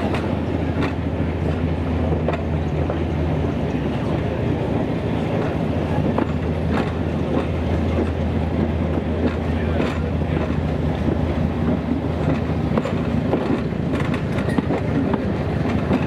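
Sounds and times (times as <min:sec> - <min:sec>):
diesel engine drone: 0:00.0 - 0:16.0
rail and wheel noise: 0:00.0 - 0:16.0.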